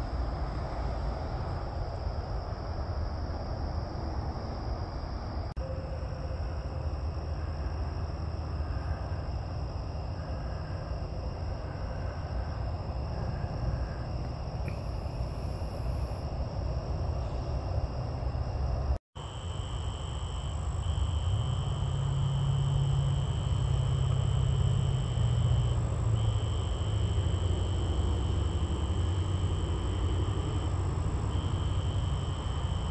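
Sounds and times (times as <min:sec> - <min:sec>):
low-pitched insect trill: 0:00.2 - 0:32.9
insects trilling: 0:05.4 - 0:32.9.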